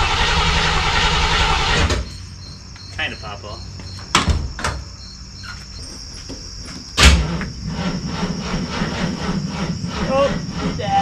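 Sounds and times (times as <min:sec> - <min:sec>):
car engine starting and idling: 0:00.0 - 0:05.8, 0:06.6 - 0:11.0.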